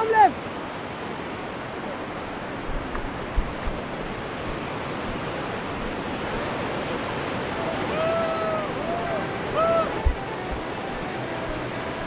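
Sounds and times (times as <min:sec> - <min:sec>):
roar of rushing white water: 0:00.0 - 0:12.0.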